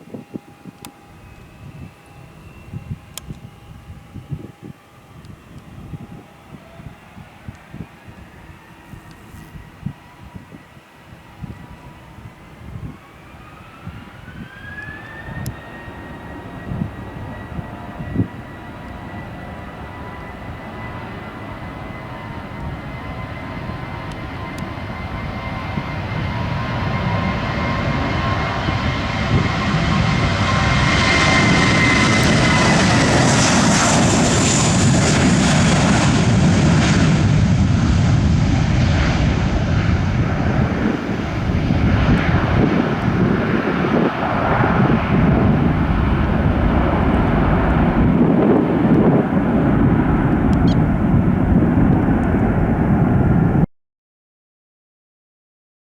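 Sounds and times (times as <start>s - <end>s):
jet engine whine: 0.0s - 53.7s.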